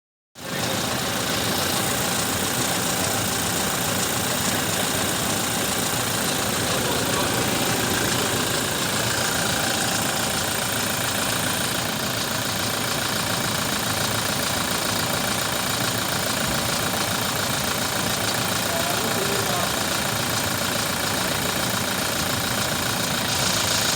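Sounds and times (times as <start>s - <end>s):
car engine idling: 0.4s - 23.9s.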